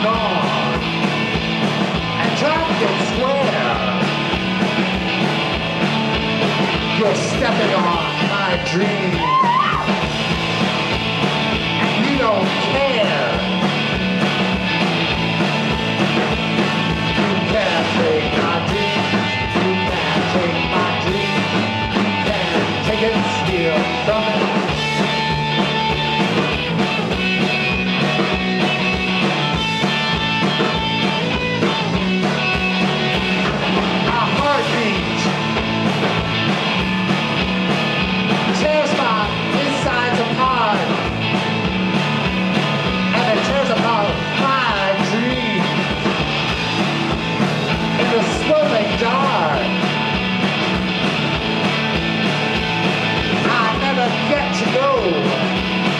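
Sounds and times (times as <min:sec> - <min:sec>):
live rock band playing: 0:00.0 - 0:55.9
steady drum beat: 0:00.0 - 0:55.9.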